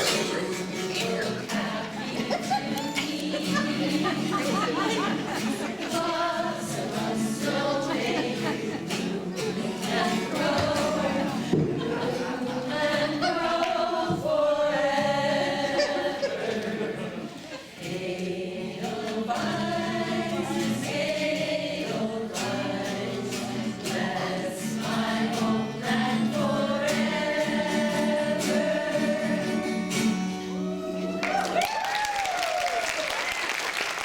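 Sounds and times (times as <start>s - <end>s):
women singing in harmony: 0.0s - 31.0s.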